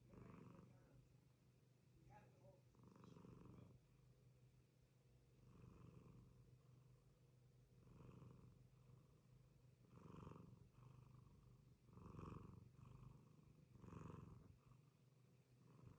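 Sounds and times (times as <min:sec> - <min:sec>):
cat snoring softly: 0:00.0 - 0:01.0, 0:02.1 - 0:04.0, 0:05.3 - 0:15.9.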